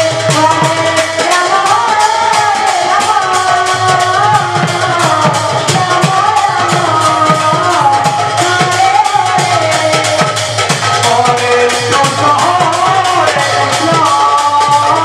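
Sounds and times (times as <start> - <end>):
high voice singing: 0.0 - 15.0.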